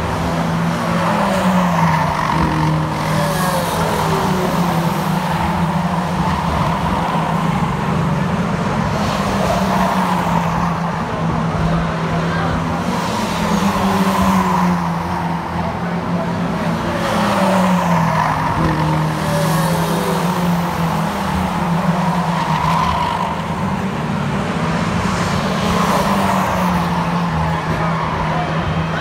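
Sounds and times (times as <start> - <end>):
racing car engines passing: 0.0 - 29.0.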